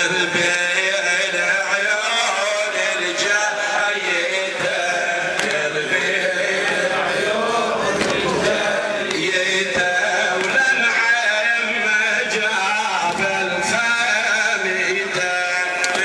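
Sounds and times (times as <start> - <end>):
men chanting a lament: 0.0 - 16.0
reciter on a microphone: 0.0 - 16.0.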